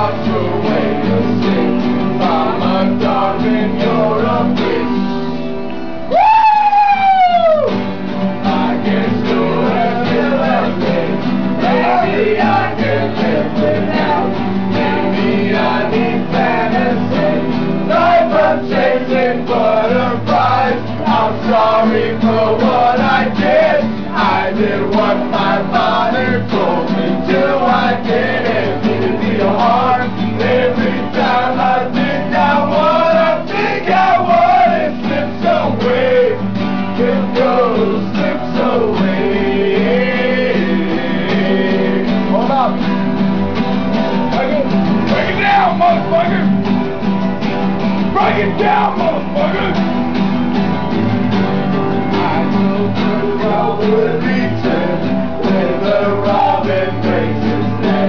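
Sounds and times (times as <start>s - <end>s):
man singing: 0.0s - 5.1s, 8.4s - 42.8s, 44.3s - 46.6s, 48.1s - 49.9s, 51.9s - 58.0s
acoustic guitar strumming: 0.0s - 58.0s.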